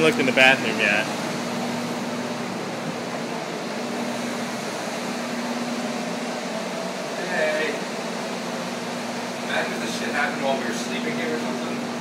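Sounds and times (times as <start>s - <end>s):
heaters whirring: 0.0s - 12.0s.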